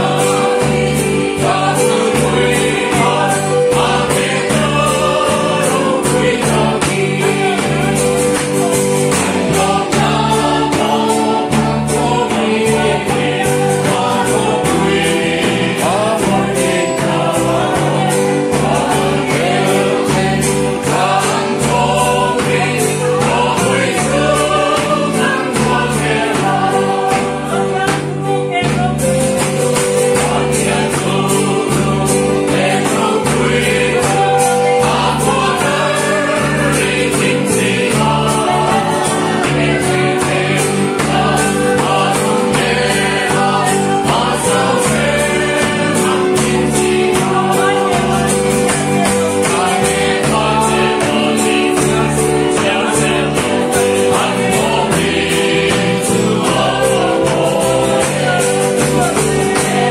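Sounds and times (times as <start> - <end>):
group singing a hymn: 0.0 - 59.9
hand-clapping: 0.0 - 59.9.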